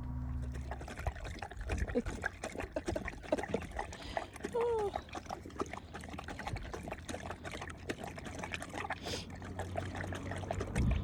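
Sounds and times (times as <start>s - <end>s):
dog lapping water: 0.4s - 11.0s.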